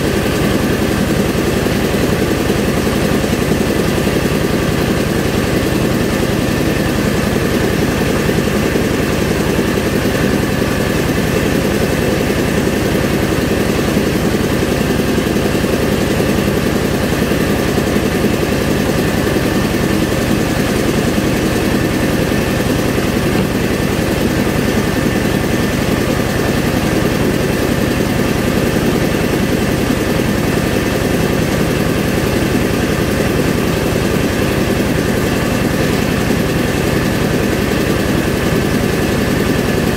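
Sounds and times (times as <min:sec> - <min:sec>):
rice milling machine drone: 0:00.0 - 0:39.9.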